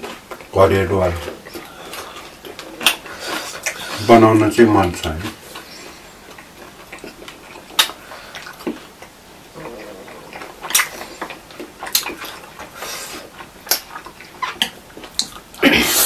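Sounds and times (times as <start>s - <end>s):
chewing and slurping noodles: 1.1s - 4.4s, 5.0s - 16.0s.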